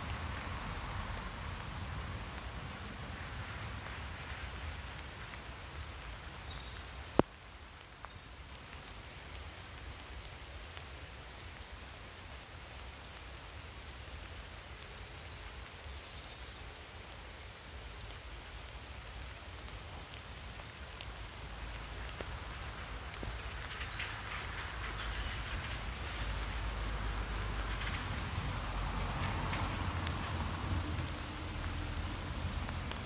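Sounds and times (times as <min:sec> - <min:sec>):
light rain on leaves: 0:00.0 - 0:33.0.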